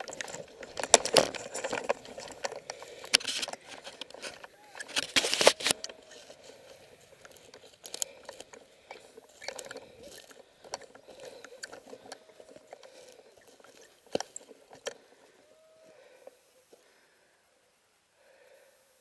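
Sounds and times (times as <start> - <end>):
footsteps crunching through dry scrub: 0.0 - 15.6.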